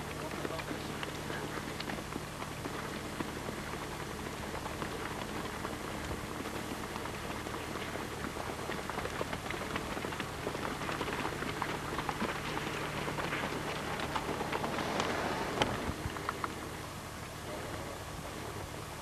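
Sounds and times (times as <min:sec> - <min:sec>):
horse hooves on dirt track: 0:00.0 - 0:19.0
low steady hum: 0:00.0 - 0:19.0.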